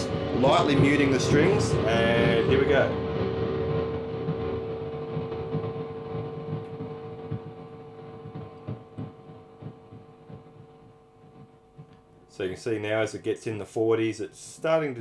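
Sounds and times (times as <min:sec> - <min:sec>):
distorted guitar amp hum and hiss: 0:00.0 - 0:15.0.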